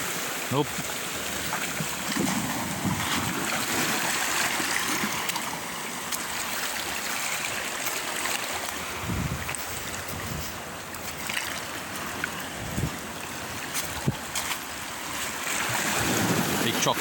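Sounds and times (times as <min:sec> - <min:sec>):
waves lapping on pebbly shore: 0:00.0 - 0:17.0.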